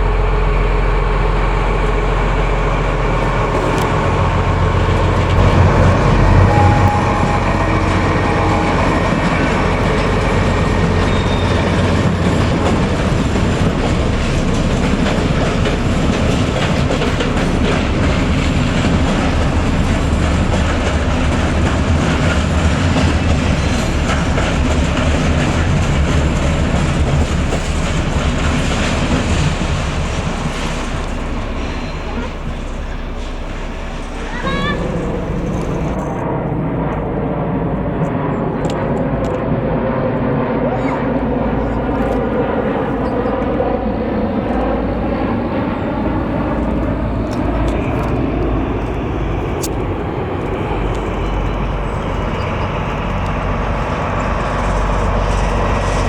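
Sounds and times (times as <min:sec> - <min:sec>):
diesel locomotive engine droning: 0:00.0 - 0:56.0
train rolling on rails: 0:00.0 - 0:56.0.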